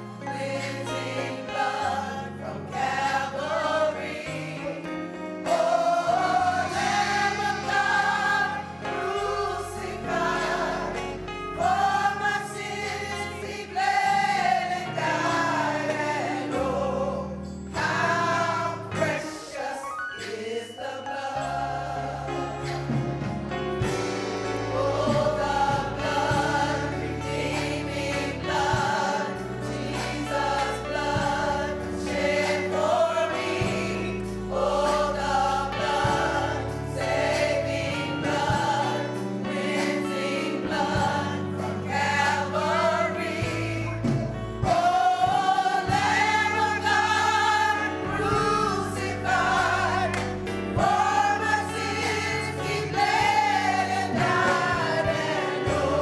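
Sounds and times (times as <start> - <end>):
instrumental accompaniment: 0.0 - 19.6, 20.2 - 56.0
gospel choir singing: 0.0 - 56.0.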